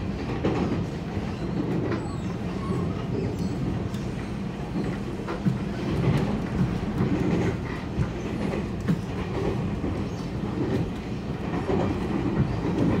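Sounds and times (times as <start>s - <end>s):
train rumbling on track: 0.0s - 13.0s
wheels clicking on rails: 0.0s - 13.0s.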